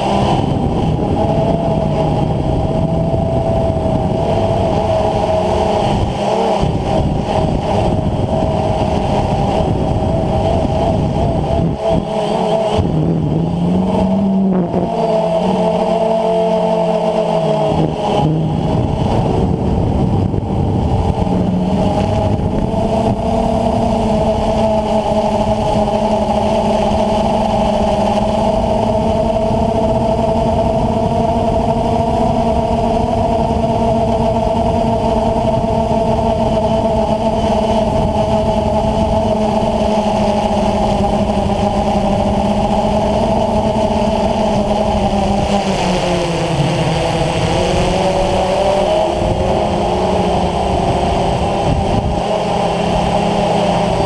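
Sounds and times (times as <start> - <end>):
drone motors whining: 0.0 - 54.0
wind noise on microphone: 0.0 - 54.0.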